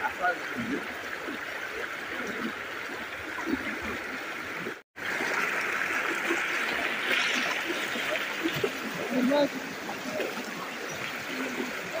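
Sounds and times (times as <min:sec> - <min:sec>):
floodwater rushing over road: 0:00.0 - 0:12.0.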